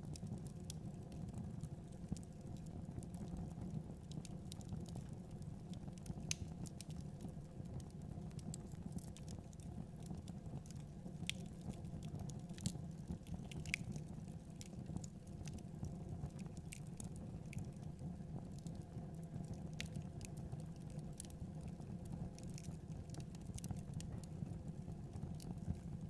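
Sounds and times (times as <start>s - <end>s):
fire popping and snapping: 0.0s - 26.0s
low rumble of burning fire: 0.0s - 26.0s.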